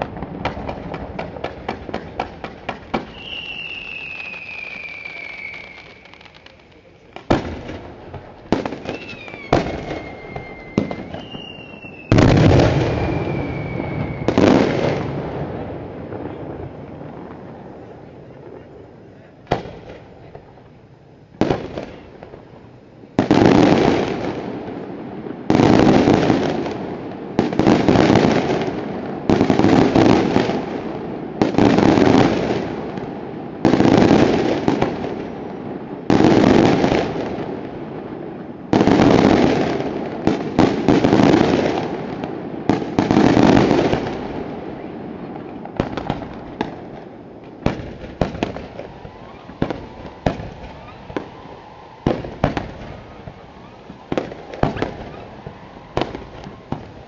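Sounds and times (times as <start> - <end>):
small firework cracks: 0.0 - 20.7, 21.4 - 22.6, 23.2 - 57.0
fireworks bursting with rumble: 0.0 - 57.0.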